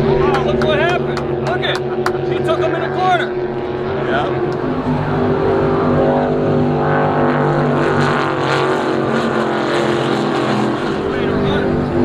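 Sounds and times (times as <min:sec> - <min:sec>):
powerboat engines roaring: 0:00.0 - 0:12.0.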